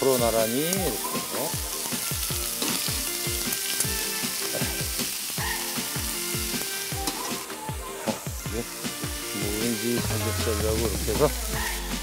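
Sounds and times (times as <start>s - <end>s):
background music with steady beat: 0.0s - 12.0s
pork sizzling on a hot griddle: 0.0s - 12.0s.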